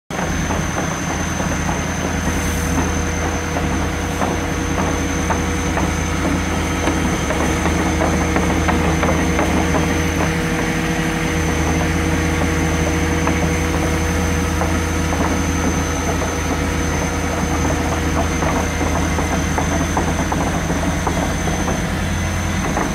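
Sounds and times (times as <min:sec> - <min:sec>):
diesel engine running: 0:00.1 - 0:22.9.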